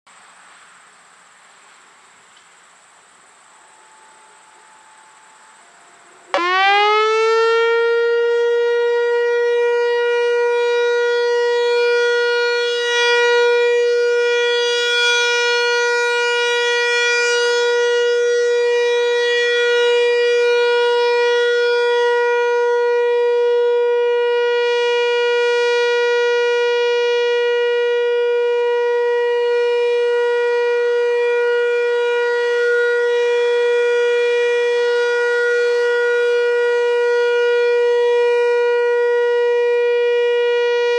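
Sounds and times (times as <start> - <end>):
electronic warning siren: 6.3 - 40.9.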